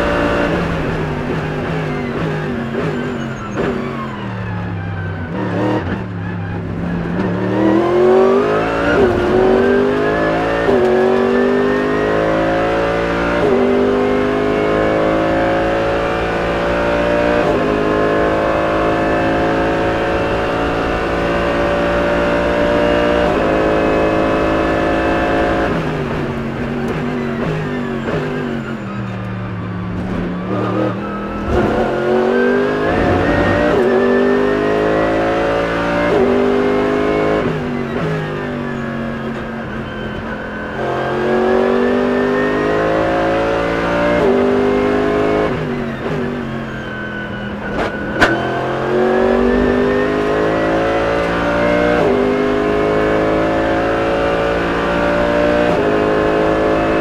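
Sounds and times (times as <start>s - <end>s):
race car engine revving: 0.0s - 4.2s, 5.3s - 29.2s, 29.8s - 57.0s.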